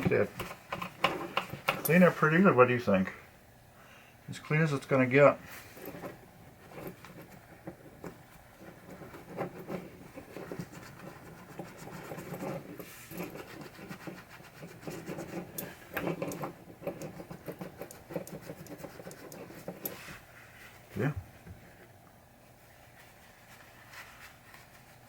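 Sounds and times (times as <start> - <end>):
scratching and rubbing small parts: 0.0 - 2.4, 4.6 - 25.0.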